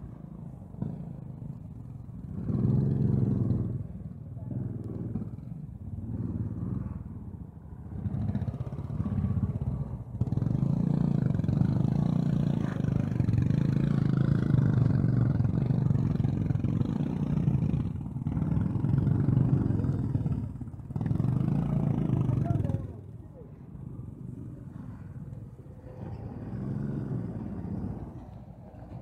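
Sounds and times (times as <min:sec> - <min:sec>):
motorcycle engine revving: 0:00.8 - 0:07.2, 0:07.8 - 0:23.1, 0:25.8 - 0:28.3.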